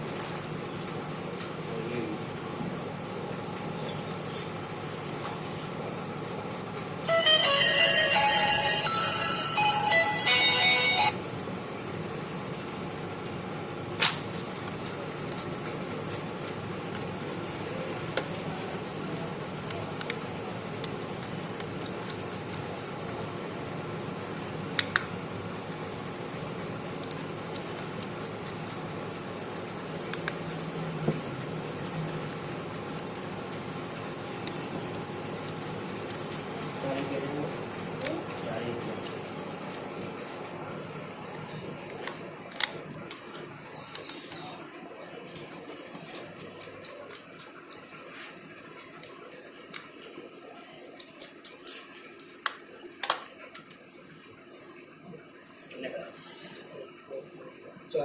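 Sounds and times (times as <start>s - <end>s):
fan-like hum: 0.0s - 58.0s.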